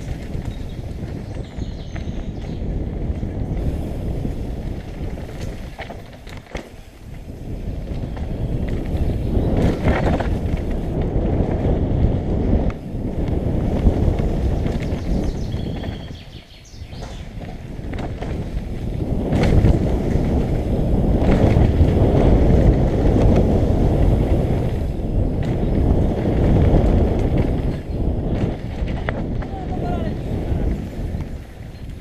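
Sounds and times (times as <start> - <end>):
bike rattles and knocks: 0.0 - 32.0
tyres rumbling over dirt: 0.0 - 32.0
wind noise on microphone: 0.0 - 32.0.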